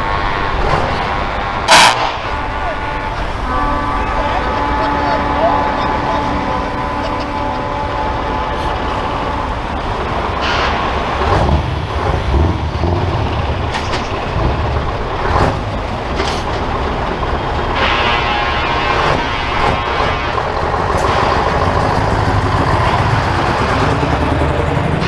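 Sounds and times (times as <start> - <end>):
heavy trucks driving past: 0.0 - 25.0.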